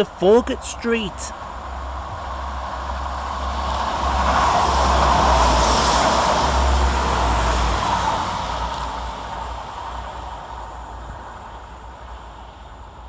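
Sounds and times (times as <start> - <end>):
diesel train running through: 0.0 - 13.0
wheels on rail rumbling: 0.0 - 13.0.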